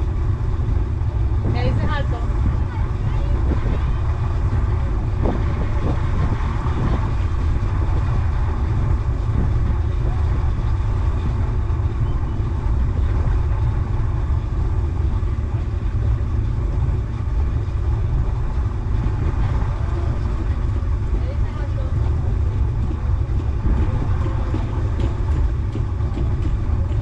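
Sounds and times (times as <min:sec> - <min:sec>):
outboard motors running: 0:00.0 - 0:27.0.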